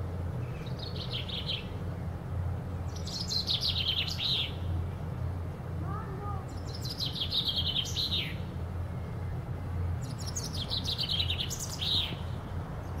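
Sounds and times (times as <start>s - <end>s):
chaffinch singing: 0.4s - 2.1s, 2.7s - 4.8s, 6.2s - 13.0s.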